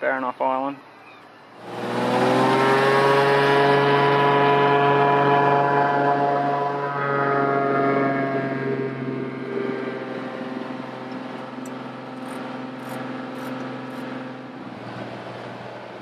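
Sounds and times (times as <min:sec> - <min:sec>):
light aircraft engine and propeller: 0:00.0 - 0:16.0.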